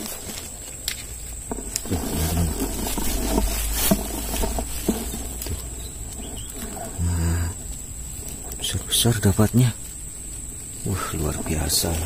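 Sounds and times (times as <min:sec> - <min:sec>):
net rustling on grass: 0:00.0 - 0:12.0
wind rumbling on microphone: 0:00.0 - 0:12.0.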